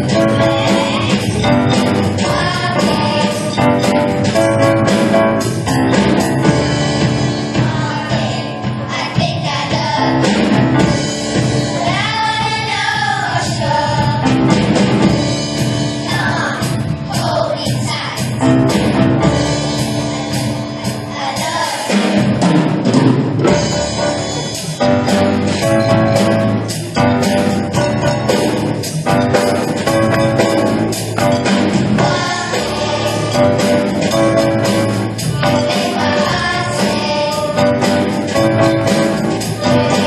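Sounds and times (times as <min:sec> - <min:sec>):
drums: 0:00.0 - 0:40.0.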